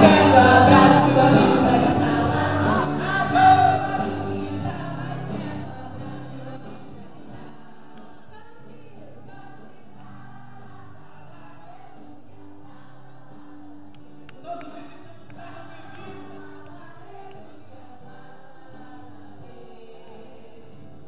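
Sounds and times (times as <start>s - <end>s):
gospel singing over backing music: 0.0s - 21.0s.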